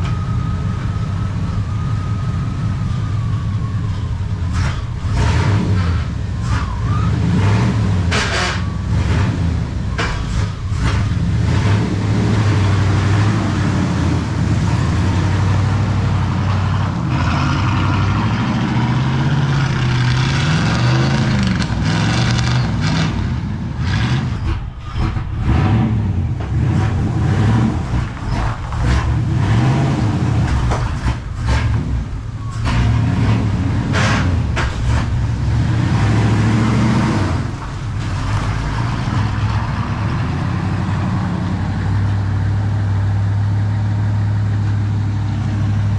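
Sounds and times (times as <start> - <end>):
truck engine revving: 0.0 - 45.9.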